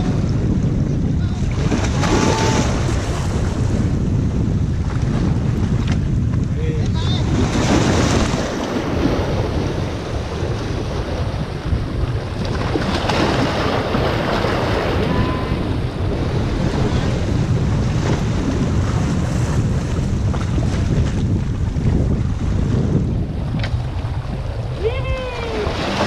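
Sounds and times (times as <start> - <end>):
wind buffeting microphone: 0.0 - 26.0
waves splashing against rocks: 1.2 - 3.9, 4.7 - 26.0.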